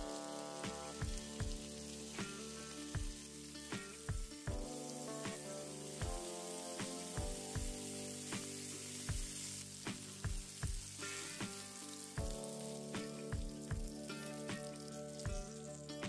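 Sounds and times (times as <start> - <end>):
background music with beat: 0.0 - 16.0
chicken sizzling in oil: 0.0 - 16.0.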